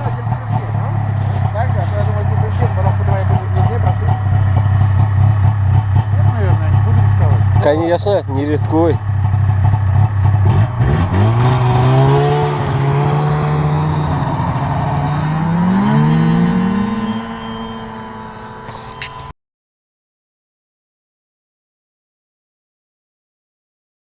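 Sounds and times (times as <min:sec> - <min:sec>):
vehicle engine revving: 0:00.0 - 0:19.3.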